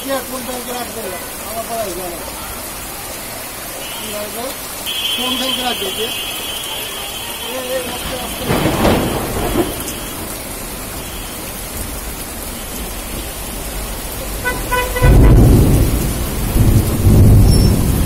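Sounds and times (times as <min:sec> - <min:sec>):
heavy rain on flooded street: 0:00.0 - 0:18.0.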